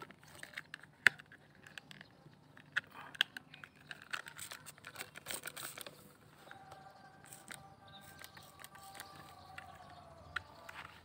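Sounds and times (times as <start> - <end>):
handling noise crackling and clicks: 0.0 - 11.0.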